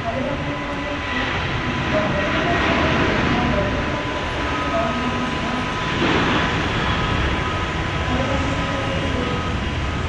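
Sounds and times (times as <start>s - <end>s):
jet engines idling: 0.0s - 10.0s.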